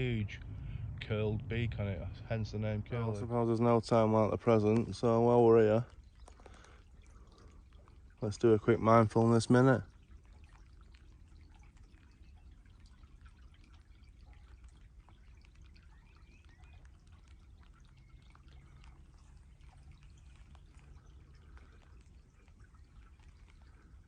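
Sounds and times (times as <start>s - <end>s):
faint low drone: 0.0s - 24.0s
raindrops ticking: 0.0s - 24.0s.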